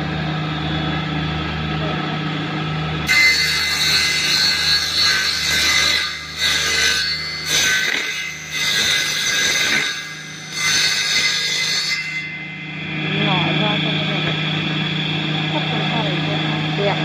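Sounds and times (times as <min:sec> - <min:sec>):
planer cutter working wood: 0:00.0 - 0:17.0
wood planing machine motor hum: 0:00.0 - 0:17.0.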